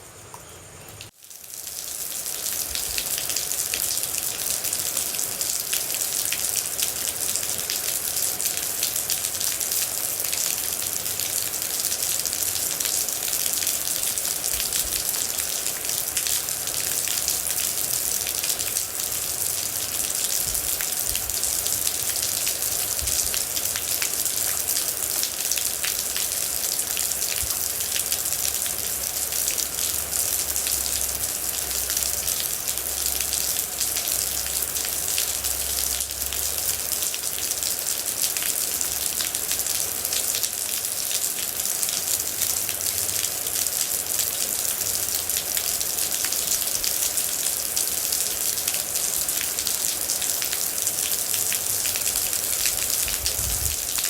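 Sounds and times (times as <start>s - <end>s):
heavy rain on a surface: 0.0s - 54.0s.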